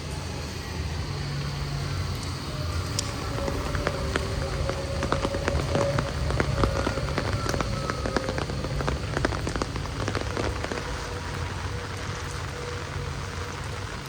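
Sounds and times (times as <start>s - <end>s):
faint steady hum: 0.0s - 14.0s
heavy rain: 0.0s - 14.0s
raindrops striking close by: 0.0s - 14.0s.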